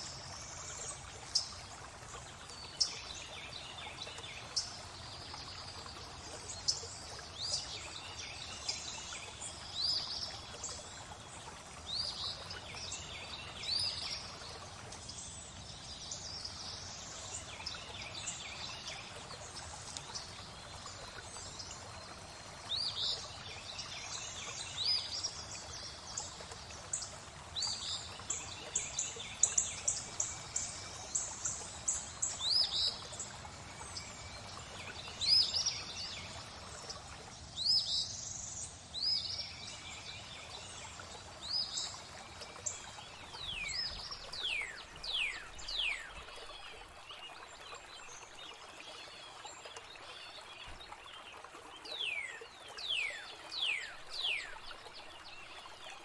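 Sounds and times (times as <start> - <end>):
flowing water: 0.0 - 56.0
songbirds chirping: 0.0 - 56.0.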